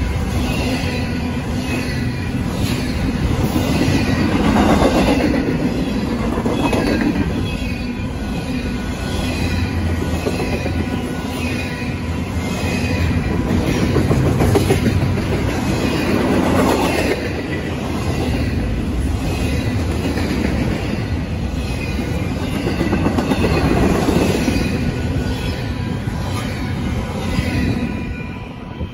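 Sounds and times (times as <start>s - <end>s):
train wheels clattering on rails: 0.0s - 28.0s.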